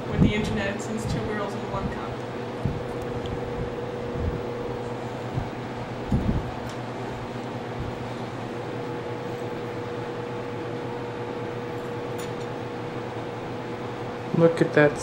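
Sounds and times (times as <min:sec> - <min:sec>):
room hum and hiss: 0:00.0 - 0:15.0.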